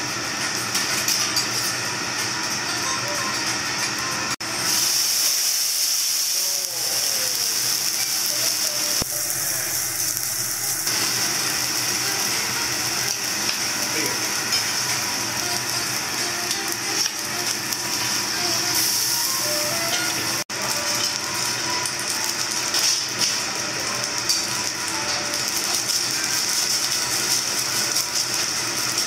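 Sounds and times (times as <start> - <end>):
steak sizzling on a griddle: 4.5 - 29.0.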